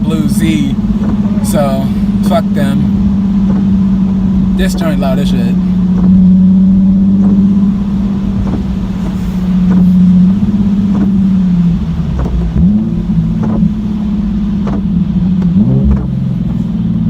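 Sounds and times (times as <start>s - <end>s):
car engine droning: 0.0s - 17.0s
exhaust pops: 0.0s - 17.0s.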